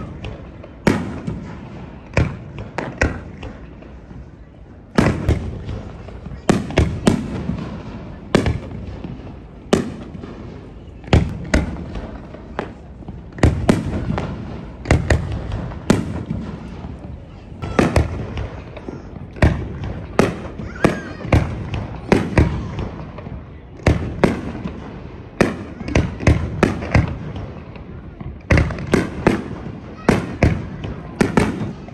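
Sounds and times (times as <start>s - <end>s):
fireworks bursting: 0.0s - 31.9s.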